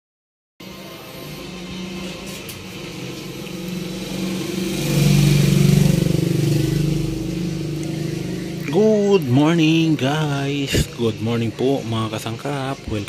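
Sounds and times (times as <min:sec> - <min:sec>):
engine running: 0:00.6 - 0:11.3.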